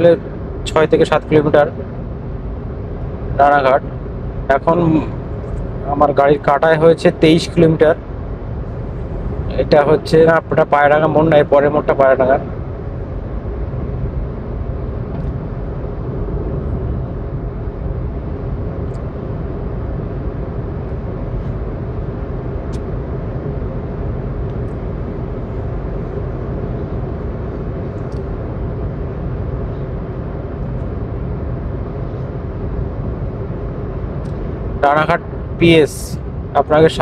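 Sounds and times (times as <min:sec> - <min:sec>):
faint even drone: 0:00.0 - 0:37.0.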